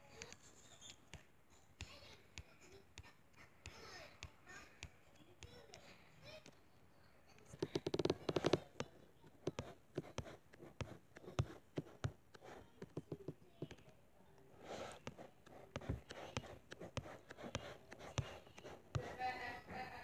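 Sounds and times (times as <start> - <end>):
fingers tapping a tablet: 0.0 - 6.6, 7.4 - 14.0, 14.6 - 19.4.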